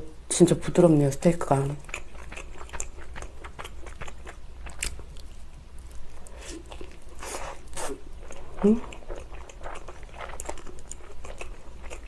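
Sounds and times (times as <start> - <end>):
biting and chewing pizza: 1.8 - 12.0.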